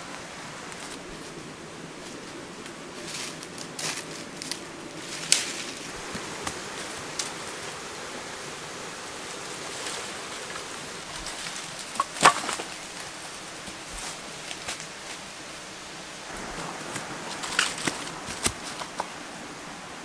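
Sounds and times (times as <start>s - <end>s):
twigs crackling: 0.0s - 7.8s, 9.1s - 15.4s, 16.3s - 19.2s
bare feet on dry leaves: 0.0s - 15.6s, 16.3s - 19.3s
steady rushing background noise: 0.0s - 20.0s.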